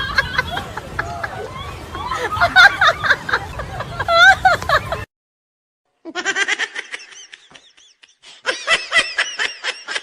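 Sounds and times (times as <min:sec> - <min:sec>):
laughter in pulsed bursts: 0:00.0 - 0:05.1, 0:06.1 - 0:10.0.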